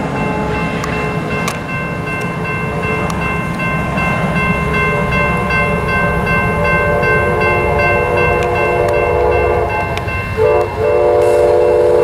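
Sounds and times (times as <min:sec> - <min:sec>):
diesel locomotive rumbling: 0:00.0 - 0:12.0
steady high tones: 0:00.0 - 0:12.0.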